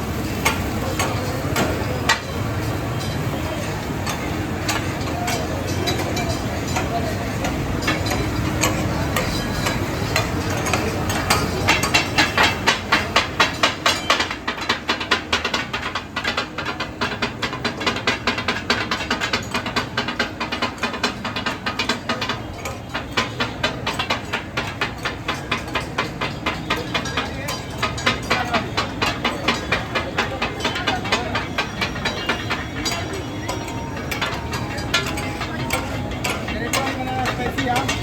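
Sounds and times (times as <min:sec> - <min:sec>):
metal spatulas clanging on griddle: 0:00.0 - 0:38.0.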